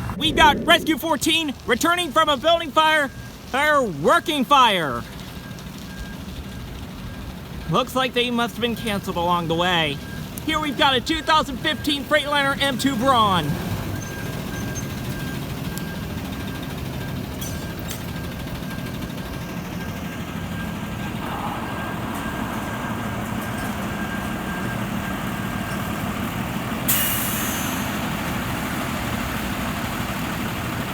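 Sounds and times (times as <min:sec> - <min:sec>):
truck diesel engine running: 0:00.0 - 0:30.9.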